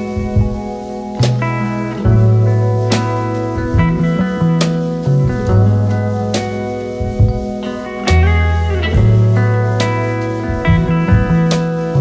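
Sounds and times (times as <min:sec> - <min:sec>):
bass: 0:00.0 - 0:12.0
guitar: 0:00.0 - 0:12.0
steady drum beat: 0:00.0 - 0:12.0.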